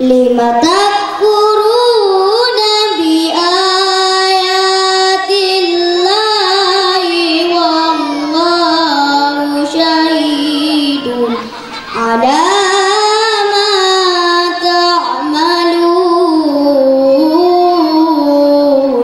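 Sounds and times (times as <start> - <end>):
boy reciting melodically: 0.0 - 19.0.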